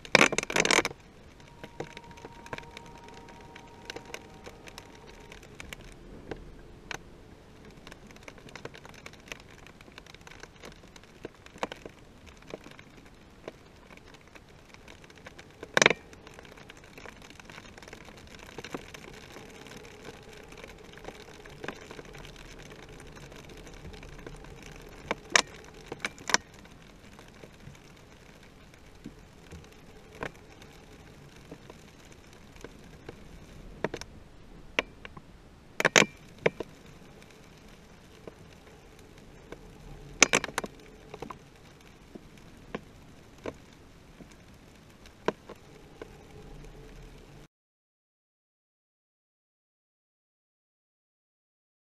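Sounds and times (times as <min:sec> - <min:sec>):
low steady hiss: 0:00.0 - 0:47.5.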